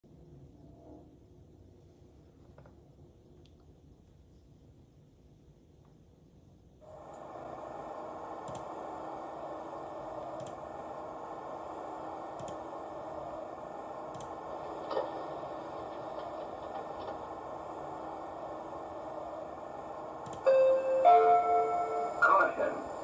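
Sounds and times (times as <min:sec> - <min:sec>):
ambient hum through small speaker: 0:00.0 - 0:23.0.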